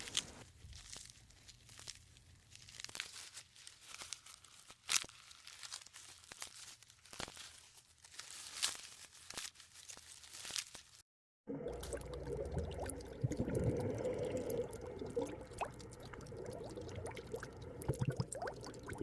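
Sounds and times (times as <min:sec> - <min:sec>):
soft crackling and crunching: 0:00.0 - 0:11.0, 0:11.6 - 0:19.0.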